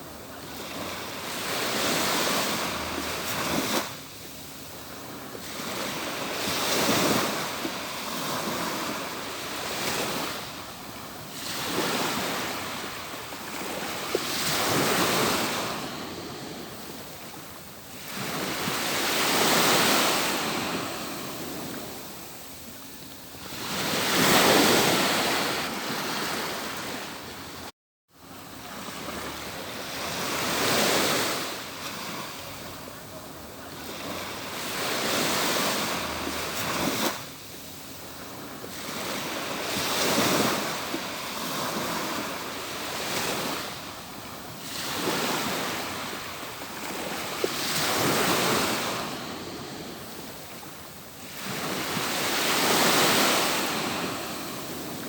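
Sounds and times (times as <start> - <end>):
waves breaking on a beach: 0.0 - 55.0.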